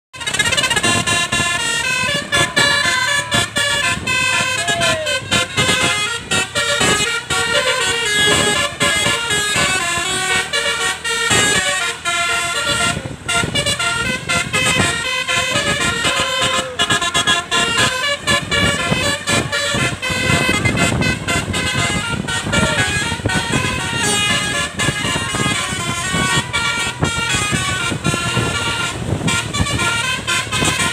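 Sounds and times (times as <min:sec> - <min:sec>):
musical bus horn tune: 0:00.1 - 0:30.9.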